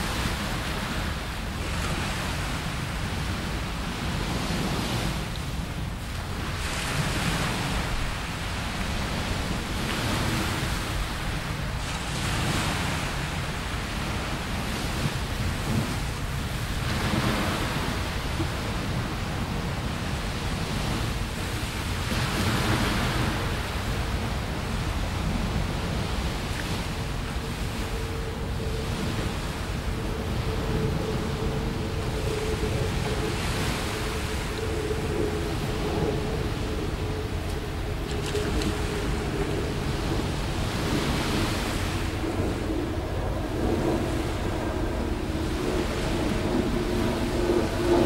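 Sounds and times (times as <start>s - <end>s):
sea waves washing onto beach: 0.0s - 48.0s
wind rumbling on microphone: 0.0s - 48.0s.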